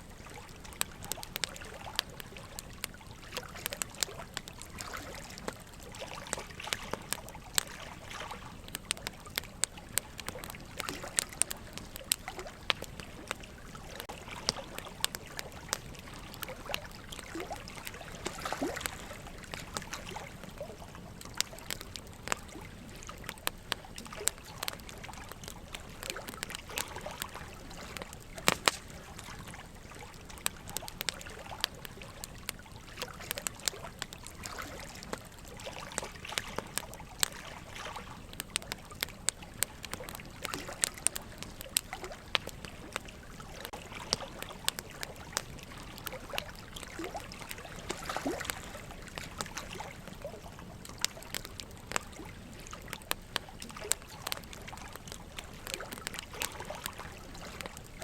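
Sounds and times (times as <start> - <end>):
burning logs crackling and popping: 0.0 - 58.0
running water trickling: 0.0 - 58.0.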